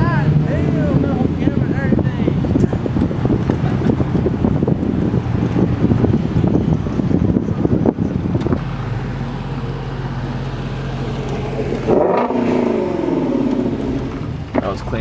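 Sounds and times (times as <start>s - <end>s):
car engine running: 0.0s - 15.0s
car revving or pulling off: 0.0s - 15.0s.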